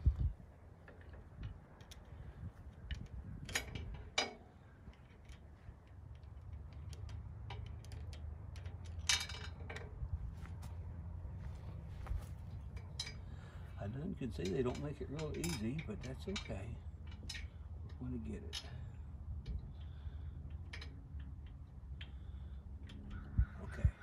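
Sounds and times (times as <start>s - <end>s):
tools and bolts clinking on metal: 0.8s - 10.6s, 12.2s - 23.9s.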